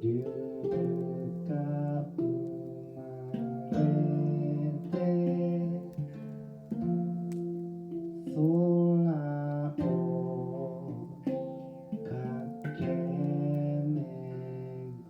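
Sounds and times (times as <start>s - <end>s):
plucked zither notes: 0.0s - 15.0s.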